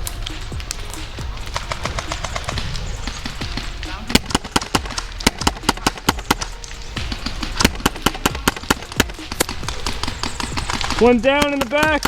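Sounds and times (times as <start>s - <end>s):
airsoft guns firing: 0.0s - 12.0s.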